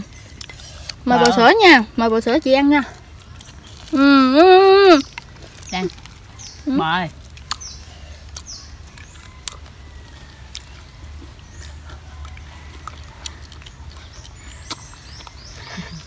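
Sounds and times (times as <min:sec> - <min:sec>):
lettuce crunching: 0:03.0 - 0:16.0.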